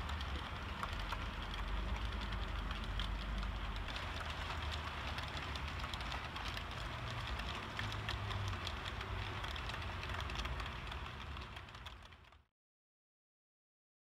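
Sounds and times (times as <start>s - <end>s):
model train rumbling on track: 0.0s - 12.4s
fast patter of small clicks: 0.0s - 12.5s.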